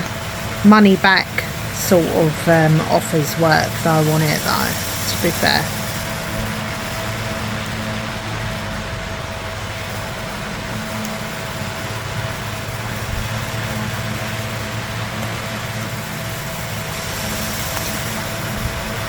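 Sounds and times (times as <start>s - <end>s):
motor hum with whine: 0.0s - 19.0s.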